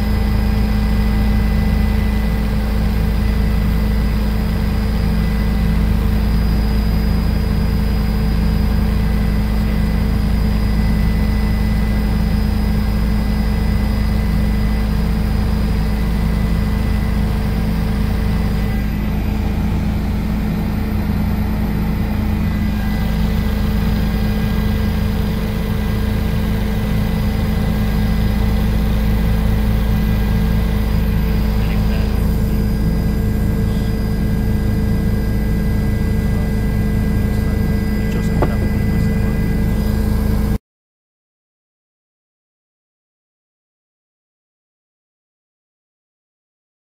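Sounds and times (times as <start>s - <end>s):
helicopter engine and rotor drone: 0.0s - 40.6s
thin steady whines: 0.0s - 40.6s.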